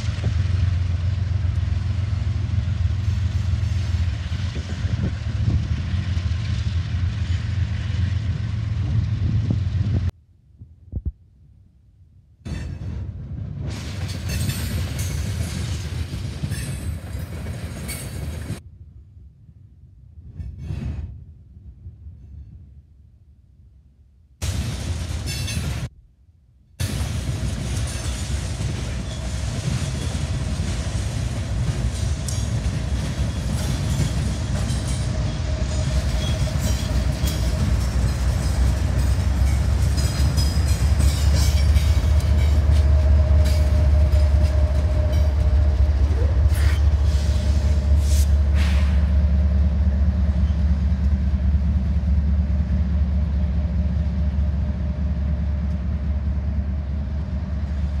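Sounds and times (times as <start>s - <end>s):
diesel locomotive engine rumble: 0.0s - 10.2s, 12.5s - 23.1s, 24.4s - 26.0s, 26.8s - 58.0s.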